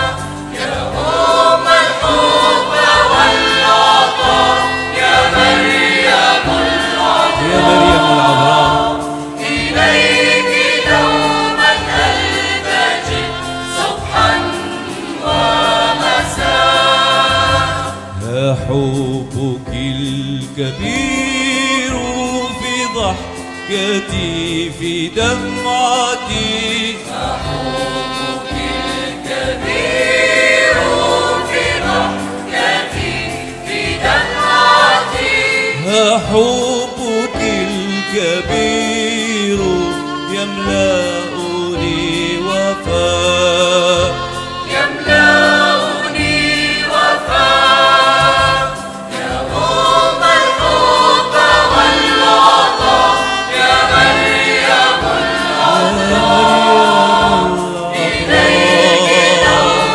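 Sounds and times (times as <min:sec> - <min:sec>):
choir singing a hymn: 0:00.0 - 0:20.1, 0:25.2 - 0:59.9.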